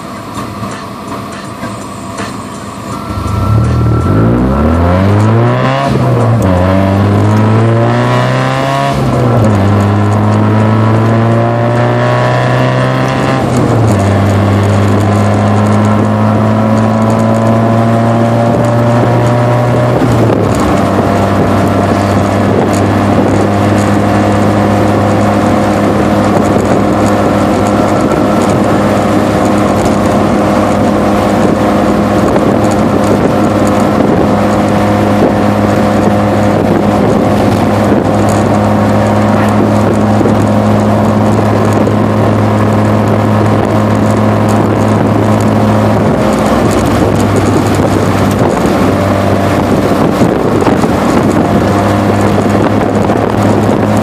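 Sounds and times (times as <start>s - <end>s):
car engine exhaust from inside cabin: 1.8s - 54.0s.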